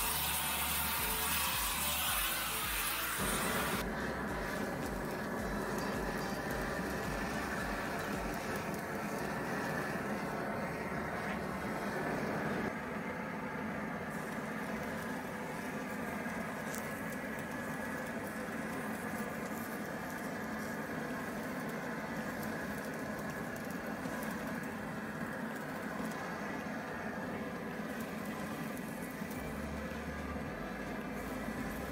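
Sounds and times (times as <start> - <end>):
welding arc crackling: 0.0 - 12.8, 14.0 - 31.9.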